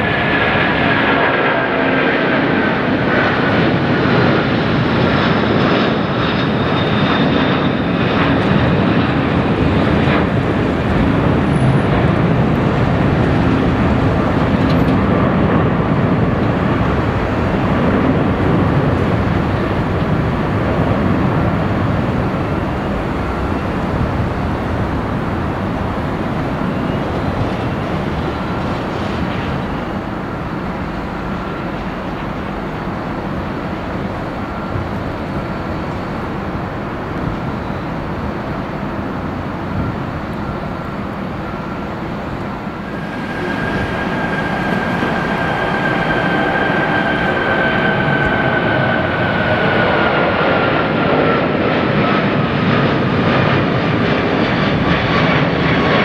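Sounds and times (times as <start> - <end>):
jet engine roar: 0.0 - 56.0.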